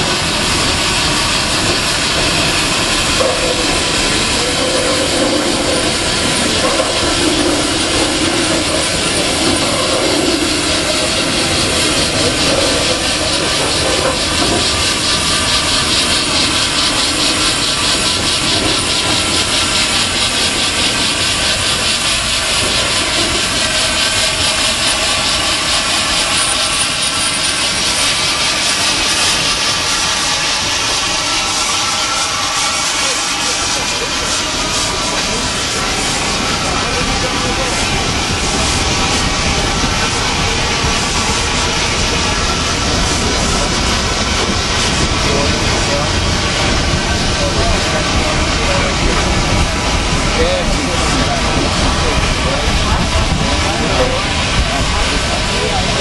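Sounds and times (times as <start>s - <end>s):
steam locomotive exhaust beat: 0.0s - 56.0s.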